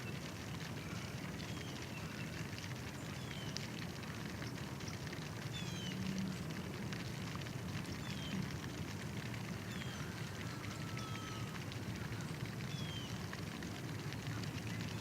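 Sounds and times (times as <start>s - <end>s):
crackling rustle: 0.0s - 15.0s.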